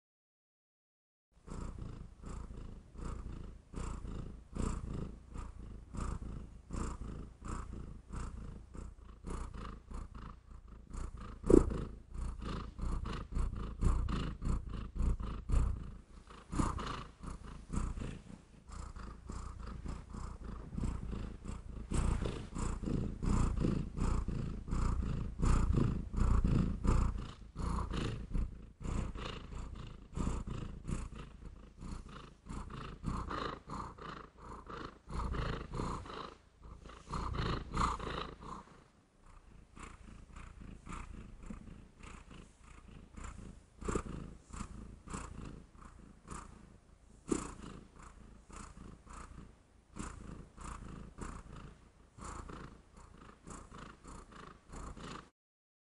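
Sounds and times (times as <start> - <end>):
cat purring: 1.4 - 55.3.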